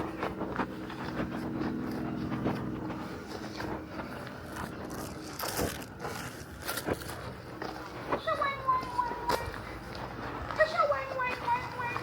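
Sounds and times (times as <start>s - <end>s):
footsteps crunching: 0.0s - 12.0s
low steady hum: 0.0s - 12.0s.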